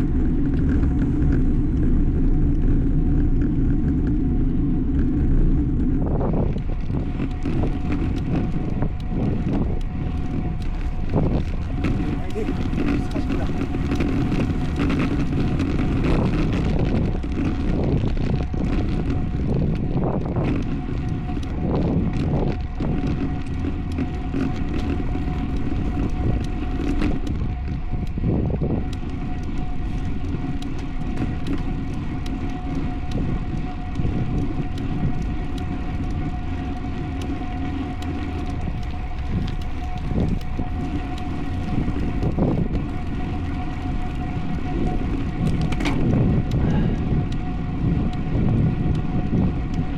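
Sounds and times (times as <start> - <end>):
bicycle road noise: 0.0 - 49.9
steady high hum: 0.0 - 49.9
wind rush on microphone: 0.0 - 49.9.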